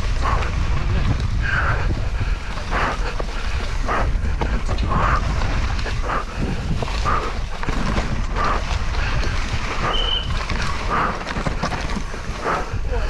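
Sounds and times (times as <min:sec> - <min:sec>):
mountain bike rumbling and rattling: 0:00.0 - 0:13.0
wind buffeting microphone: 0:00.0 - 0:13.0.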